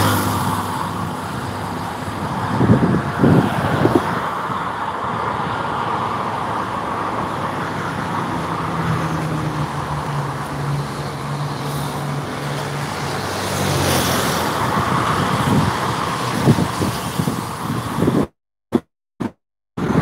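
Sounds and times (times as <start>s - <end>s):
vehicle passing: 0.0s - 17.4s
highway traffic drone: 0.0s - 20.0s.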